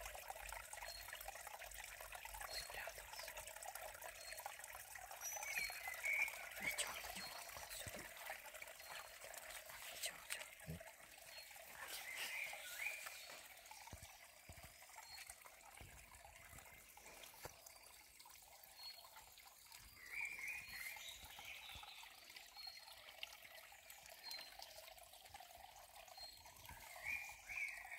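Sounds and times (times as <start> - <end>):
stream trickling: 0.0 - 27.9.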